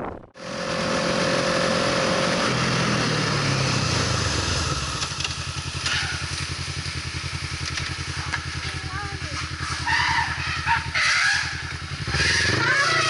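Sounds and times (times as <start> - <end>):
vehicle engine revving: 0.4 - 13.0.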